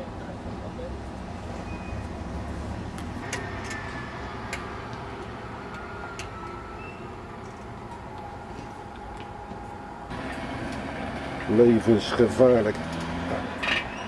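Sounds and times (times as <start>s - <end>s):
truck rumbling on road: 0.0s - 14.0s.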